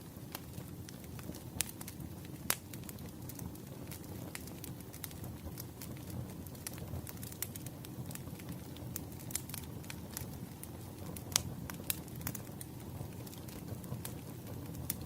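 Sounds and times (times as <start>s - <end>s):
firewood crackling and popping: 0.0s - 15.0s
flames rumbling: 0.0s - 15.0s.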